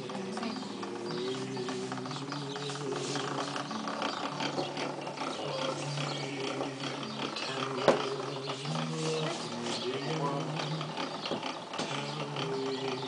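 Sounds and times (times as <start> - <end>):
pasta machine gears clicking: 0.0 - 13.0.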